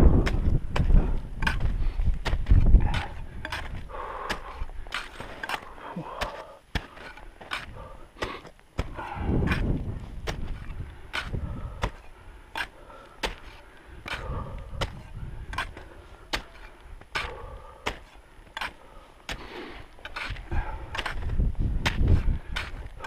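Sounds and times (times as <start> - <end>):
crampons and ice axe clicking: 0.0 - 23.0.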